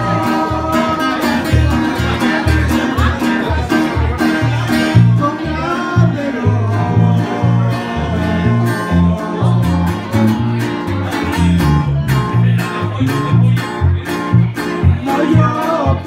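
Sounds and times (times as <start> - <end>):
acoustic guitars strumming: 0.0 - 16.0
electric bass line: 0.0 - 16.0.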